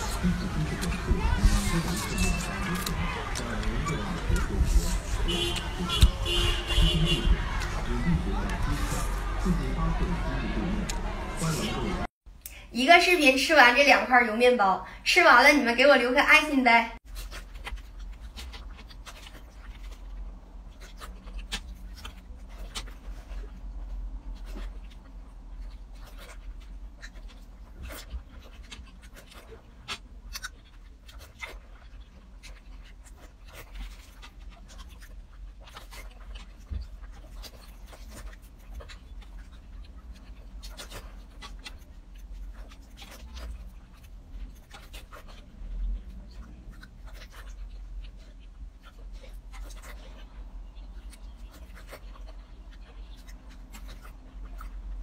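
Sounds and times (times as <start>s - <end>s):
wet chewing and lip smacking: 0.0s - 11.7s, 17.0s - 55.0s.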